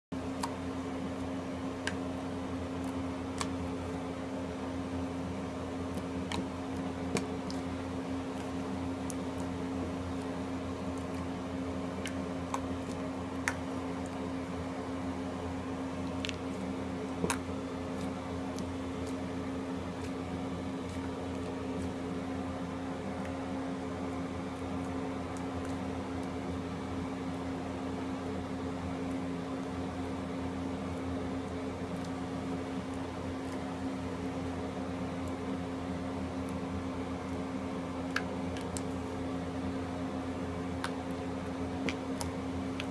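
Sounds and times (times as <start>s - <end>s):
steady machine hum: 0.1s - 42.9s.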